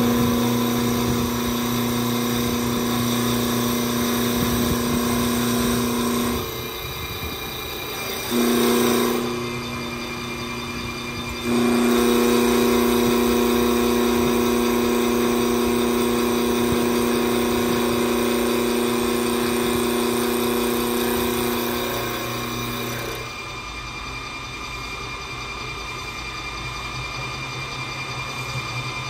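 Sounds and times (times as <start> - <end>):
wood lathe cutting wood: 0.0 - 23.5.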